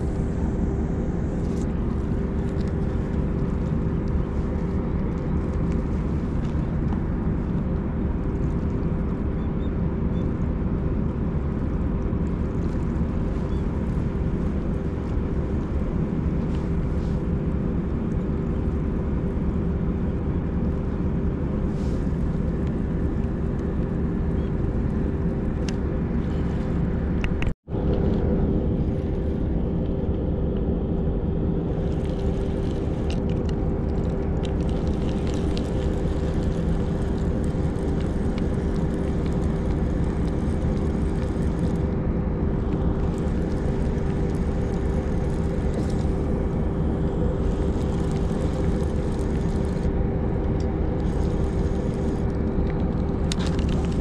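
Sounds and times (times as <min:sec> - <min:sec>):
mechanical drone with hum: 0:00.0 - 0:54.0.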